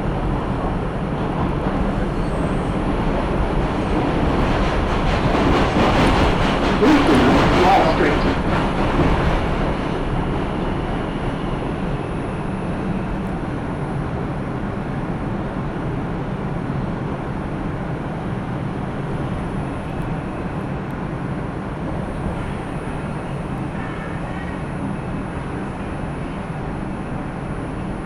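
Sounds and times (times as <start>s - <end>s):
subway train rumbling: 0.0s - 28.0s.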